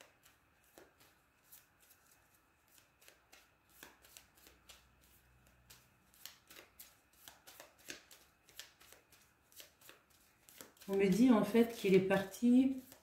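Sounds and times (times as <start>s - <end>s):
cards being shuffled: 0.0s - 13.0s.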